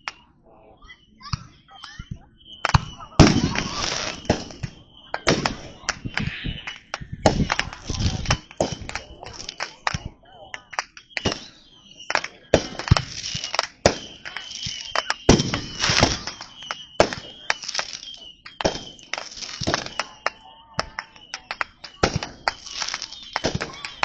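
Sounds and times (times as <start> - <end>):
fireworks cracking and popping: 1.7 - 24.0
fireworks boom: 2.1 - 24.0.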